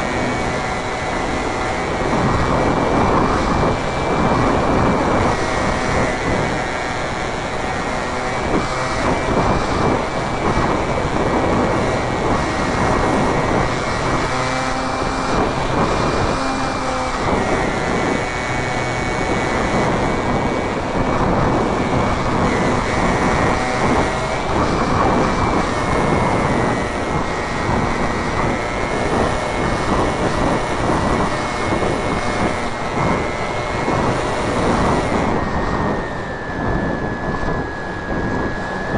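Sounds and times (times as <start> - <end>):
model airplane motor whine: 0.0 - 38.9
wind rush on microphone: 0.0 - 38.9.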